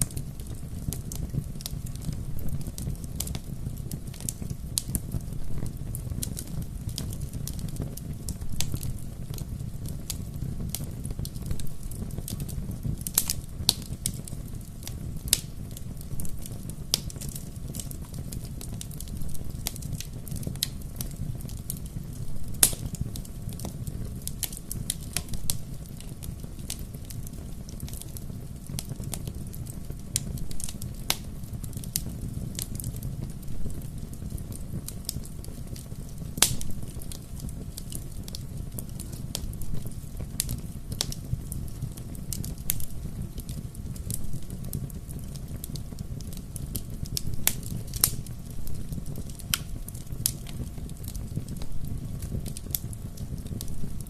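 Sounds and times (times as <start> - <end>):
bonfire burning with crackling pops: 0.0 - 54.0.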